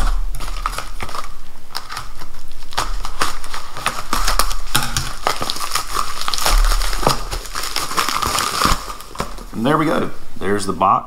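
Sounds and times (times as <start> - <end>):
scissors cutting plastic: 0.0 - 9.5
plastic mailer tearing and crinkling: 0.0 - 10.0.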